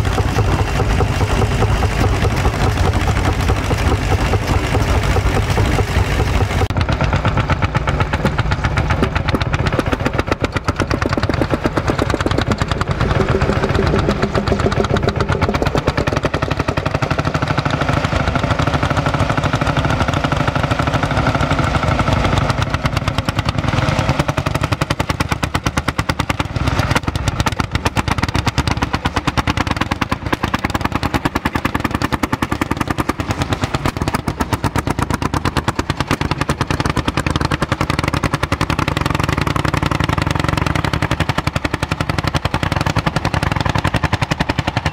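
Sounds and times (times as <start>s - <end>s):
old tractor engine knocking: 0.0s - 44.9s.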